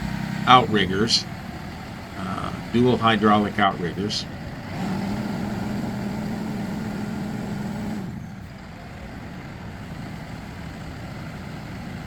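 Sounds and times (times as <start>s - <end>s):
diesel engine idling: 0.0s - 12.0s
hydraulic system humming: 0.0s - 12.0s.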